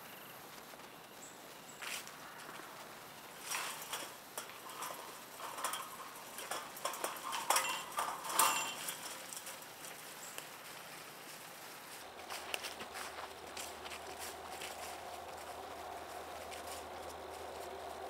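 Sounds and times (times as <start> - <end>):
rustling through brush: 0.2 - 18.0
footsteps on dry leaves: 1.3 - 18.0.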